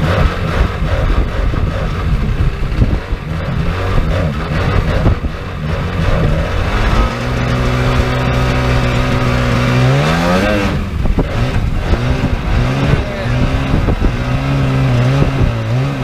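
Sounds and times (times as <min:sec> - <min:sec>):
jet boat engine running: 0:00.0 - 0:16.0.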